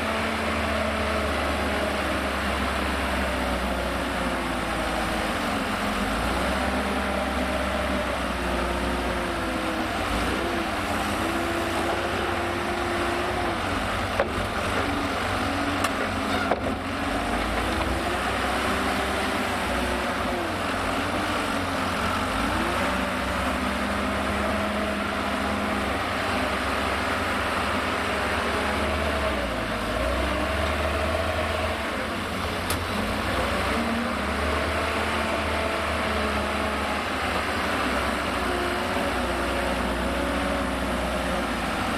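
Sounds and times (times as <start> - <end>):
wheel loader diesel engine revving: 0.0 - 41.9.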